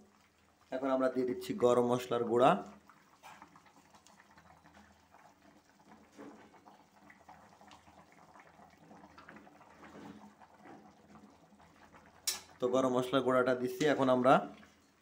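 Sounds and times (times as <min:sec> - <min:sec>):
curry bubbling in a pot: 0:00.0 - 0:15.0.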